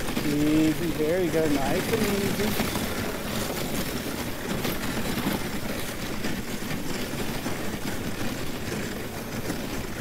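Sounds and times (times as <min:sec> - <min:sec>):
sled runners scraping on snow: 0:00.0 - 0:10.0.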